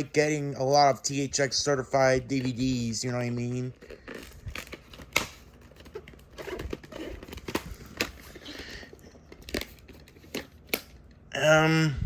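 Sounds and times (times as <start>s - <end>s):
plastic packaging crinkling: 1.6s - 11.2s.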